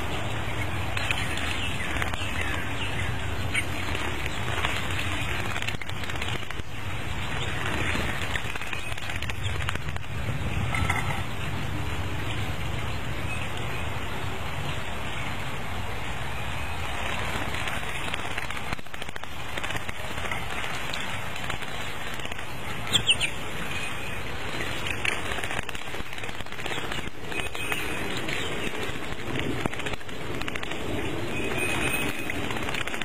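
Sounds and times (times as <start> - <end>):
fluttering wings: 0.0 - 33.0.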